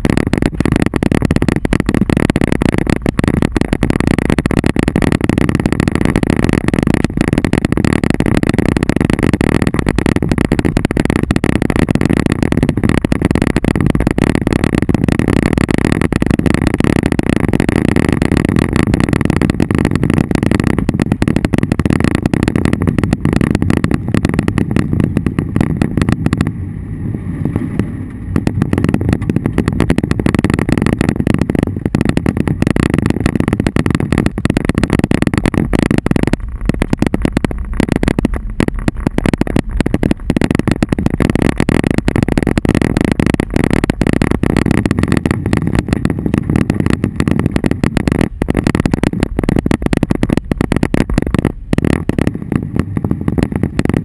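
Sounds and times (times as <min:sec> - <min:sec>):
hail and rain on car roof: 0:00.0 - 0:26.5, 0:28.4 - 0:54.0
car engine running: 0:00.0 - 0:54.0.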